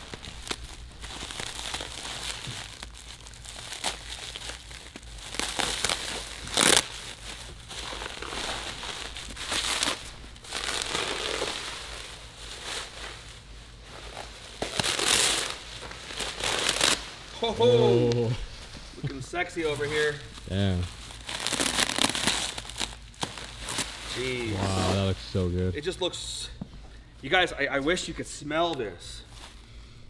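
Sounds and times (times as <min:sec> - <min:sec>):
bubble wrap crinkling: 0:00.0 - 0:25.9.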